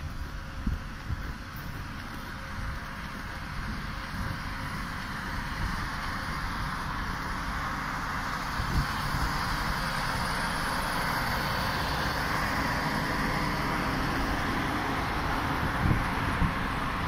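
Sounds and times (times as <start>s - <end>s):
train machinery hum and whir: 0.0s - 17.0s.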